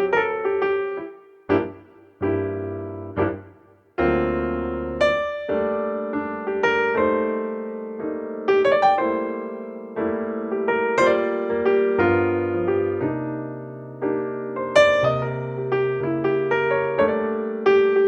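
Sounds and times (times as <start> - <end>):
piano playing slow chords: 0.0 - 17.8.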